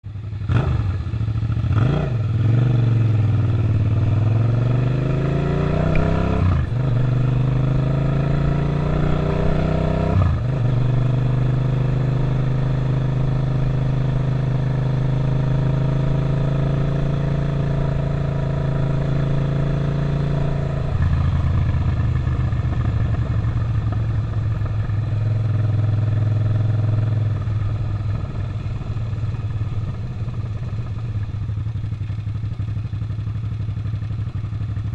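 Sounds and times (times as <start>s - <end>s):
motorcycle engine accelerating: 0.1s - 34.9s.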